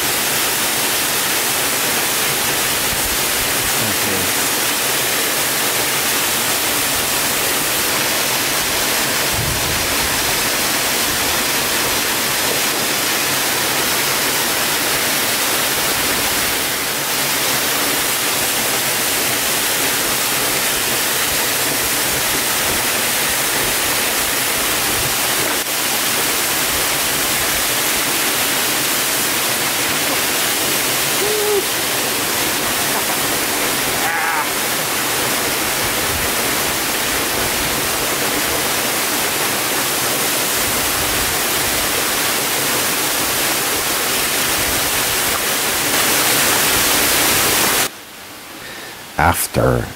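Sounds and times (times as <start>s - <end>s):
waterfall rushing: 0.0s - 49.7s.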